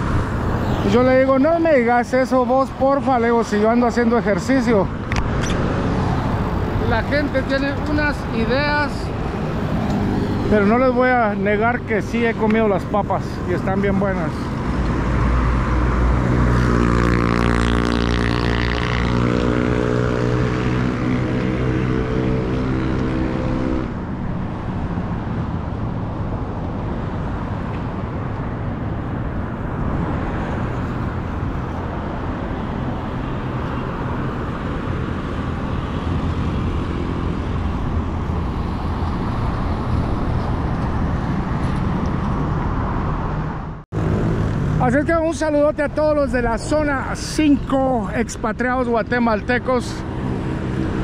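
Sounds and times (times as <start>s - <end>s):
traffic noise: 0.0s - 51.0s
vehicle engine humming: 0.0s - 51.0s.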